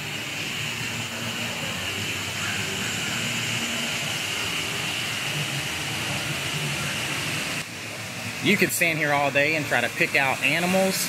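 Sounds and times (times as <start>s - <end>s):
constant high-pitched tone: 0.0s - 11.0s
outdoor background hiss: 0.0s - 11.0s.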